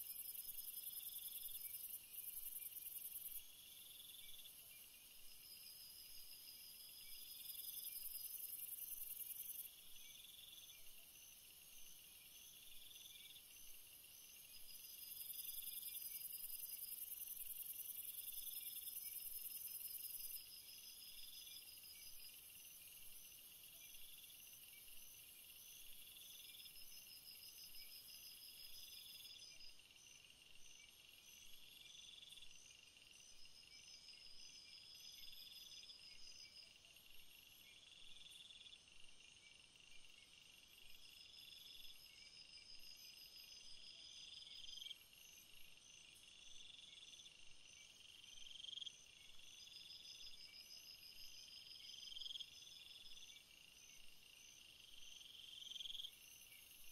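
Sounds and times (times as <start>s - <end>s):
high pulsing insect chirp: 0.0s - 56.9s.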